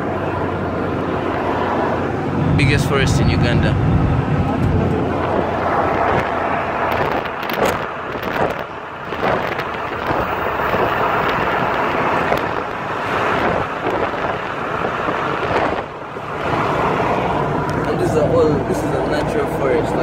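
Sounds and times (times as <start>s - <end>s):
wind buffeting microphone: 0.0s - 19.2s
vehicle road noise: 0.0s - 20.0s.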